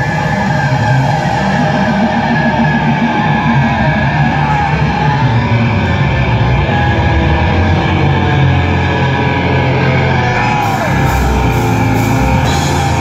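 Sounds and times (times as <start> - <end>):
bass guitar: 0.0 - 13.0
distorted electric guitars: 0.0 - 13.0
drums: 0.0 - 13.0.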